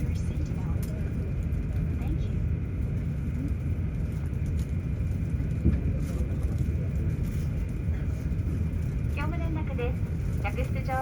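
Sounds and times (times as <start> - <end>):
aircraft cabin rumble: 0.0 - 11.0
faint passenger voices: 0.0 - 11.0.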